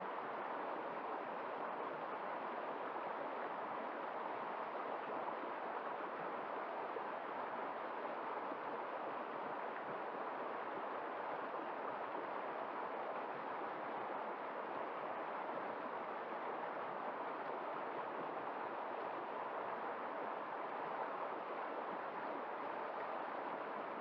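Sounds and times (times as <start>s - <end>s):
river water rushing over rocks: 0.1s - 24.0s.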